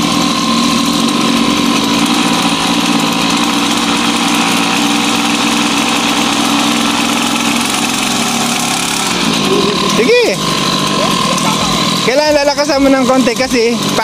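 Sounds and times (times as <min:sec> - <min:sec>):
small two-stroke engine idling: 0:00.0 - 0:14.0.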